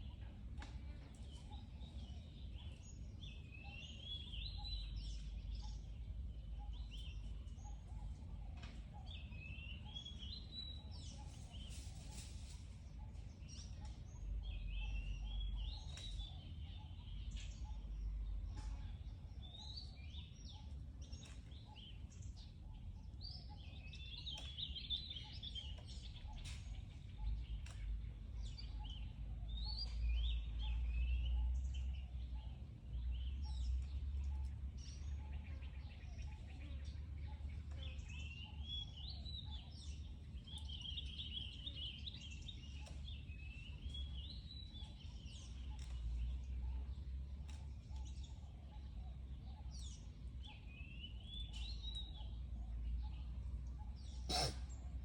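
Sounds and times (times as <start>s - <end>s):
birds chirping: 0.0s - 55.0s
low outdoor rumble: 0.0s - 55.0s.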